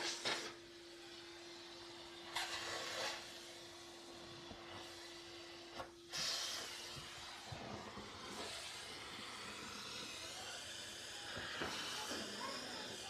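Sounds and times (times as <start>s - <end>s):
vacuum cleaner suction hissing: 0.0s - 13.0s.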